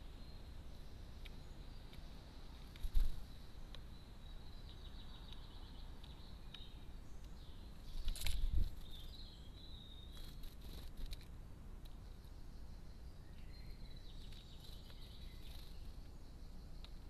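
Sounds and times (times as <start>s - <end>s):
birds calling and trilling: 0.0s - 17.0s.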